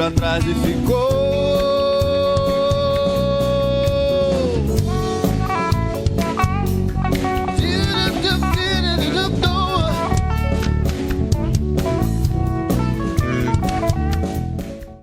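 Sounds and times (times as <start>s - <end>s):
bending lead guitar line: 0.0s - 15.0s
gospel band playing: 0.0s - 15.0s.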